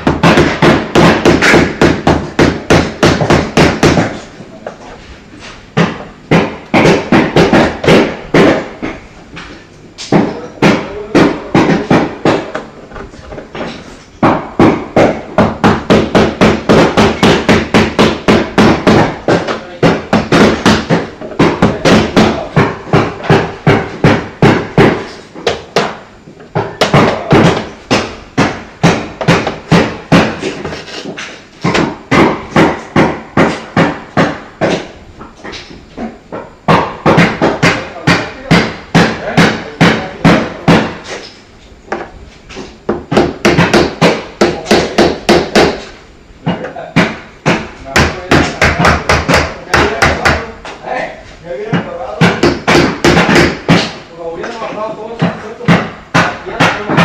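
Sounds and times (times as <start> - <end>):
hammer striking: 0.0 - 4.2, 5.8 - 12.7, 13.6 - 41.3, 42.9 - 50.5, 51.7 - 54.6, 55.2 - 57.0.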